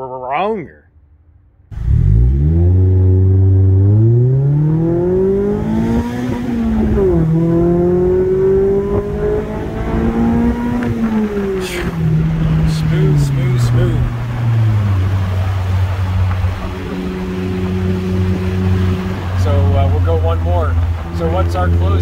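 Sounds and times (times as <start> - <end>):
car engine accelerating: 1.7 - 22.0.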